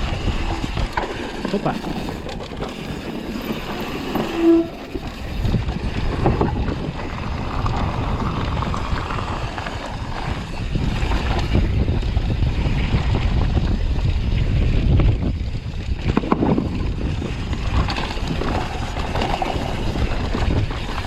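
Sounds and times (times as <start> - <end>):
bike rattling over rough ground: 0.0 - 21.0
wind buffeting microphone: 0.0 - 21.0.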